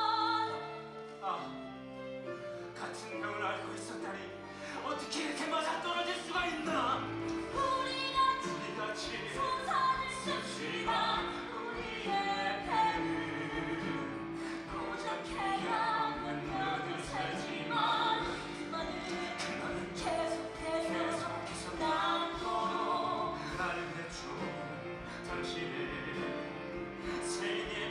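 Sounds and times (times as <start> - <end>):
instrumental accompaniment: 0.0 - 27.9
person singing: 4.7 - 27.9.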